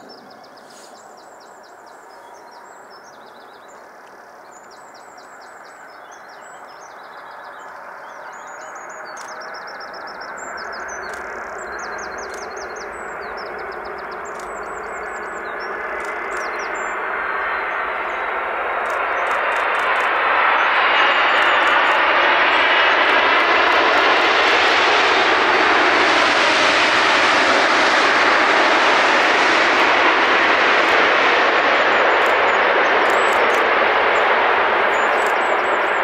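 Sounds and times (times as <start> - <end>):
jet engines roaring: 6.7 - 36.0.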